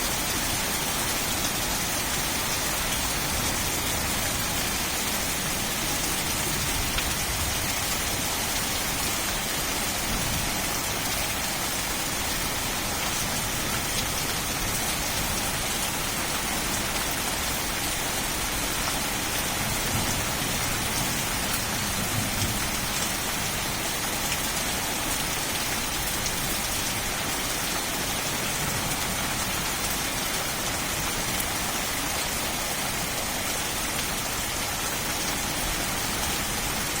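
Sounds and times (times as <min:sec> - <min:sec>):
rain falling on leaves: 0:00.0 - 0:37.0.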